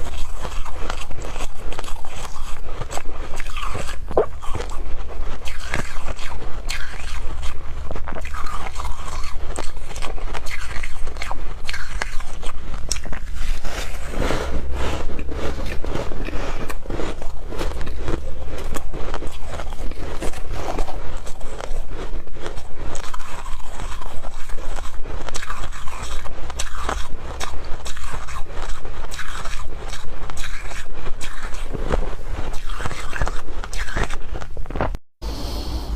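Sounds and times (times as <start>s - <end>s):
chewing crunchy snow: 0.0s - 35.0s
steady low hum: 0.0s - 35.9s.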